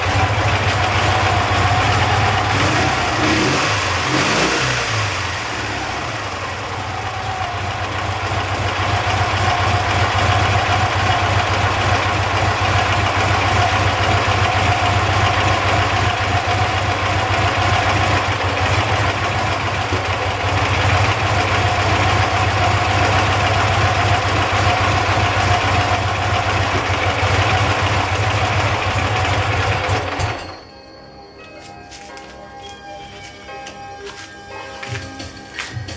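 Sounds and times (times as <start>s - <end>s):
motorcycle engine fast idle: 0.0s - 30.5s.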